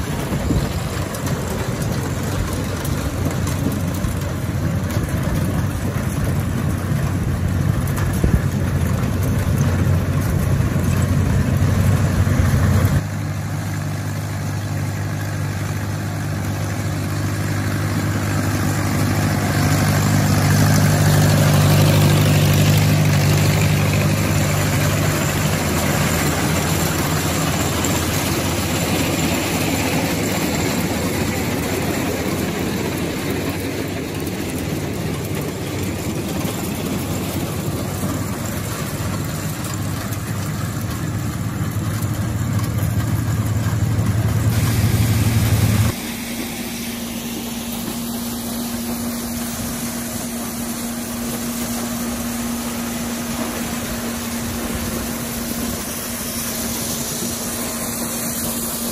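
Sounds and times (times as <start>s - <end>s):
corn picker machinery running: 0.0s - 58.9s
machine hum with steady tone: 0.0s - 58.9s
tractor engine running under load: 0.0s - 58.9s.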